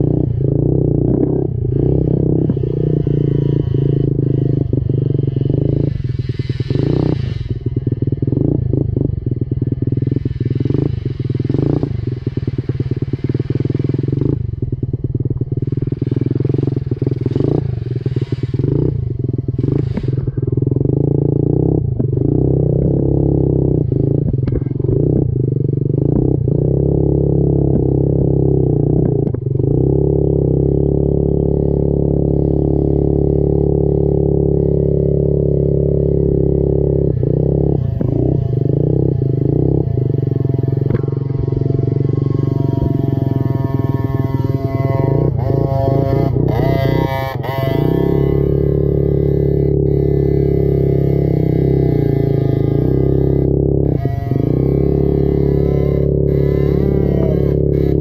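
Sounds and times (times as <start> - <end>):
minibike engine running: 0.0 - 58.0.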